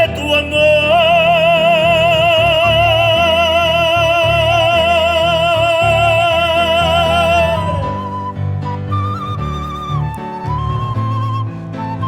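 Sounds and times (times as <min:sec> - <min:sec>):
recorded accompaniment with pulsing bass: 0:00.0 - 0:12.0.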